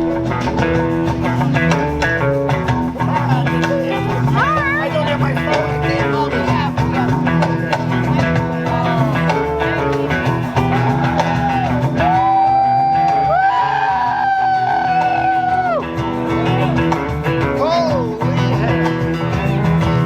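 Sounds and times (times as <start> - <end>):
bass line: 0.0 - 20.0
electric guitar lead with bent notes: 0.0 - 20.0.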